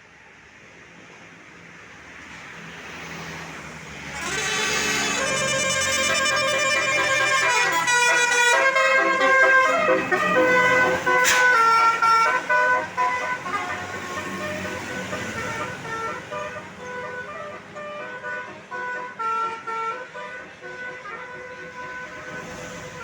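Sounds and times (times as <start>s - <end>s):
bus musical horn: 4.0s - 23.0s.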